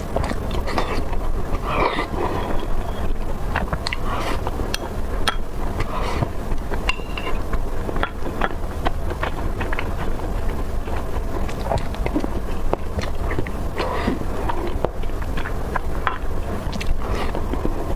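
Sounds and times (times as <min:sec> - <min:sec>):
chewing crispy food: 0:00.0 - 0:17.9
low hum: 0:00.0 - 0:17.9
wet mouth sounds: 0:00.0 - 0:17.9.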